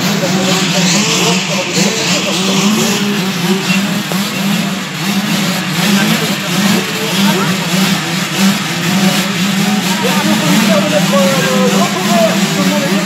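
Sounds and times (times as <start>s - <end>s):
many motorcycle engines revving: 0.0s - 13.0s.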